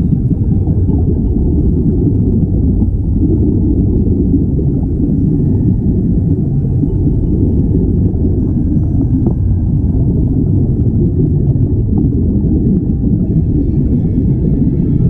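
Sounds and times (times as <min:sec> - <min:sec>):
streaming air bubbles: 0:00.0 - 0:15.0
underwater rumble of water: 0:00.0 - 0:15.0.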